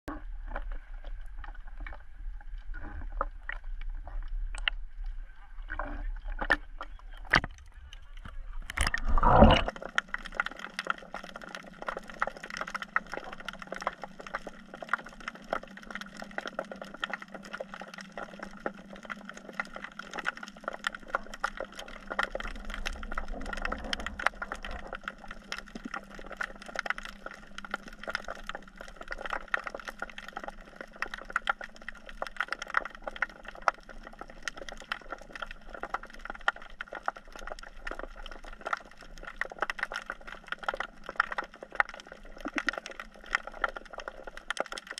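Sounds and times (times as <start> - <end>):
snapping shrimp crackle underwater: 0.1 - 44.9.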